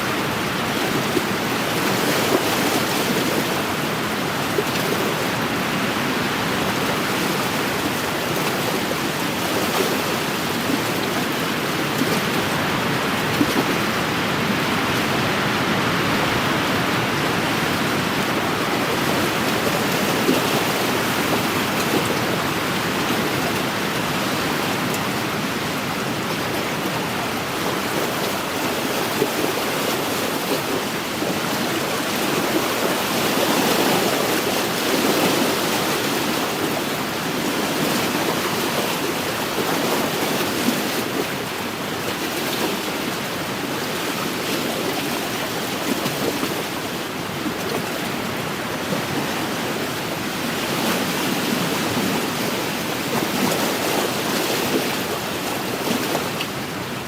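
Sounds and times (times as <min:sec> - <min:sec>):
lake waves washing against shore: 0:00.0 - 0:57.0.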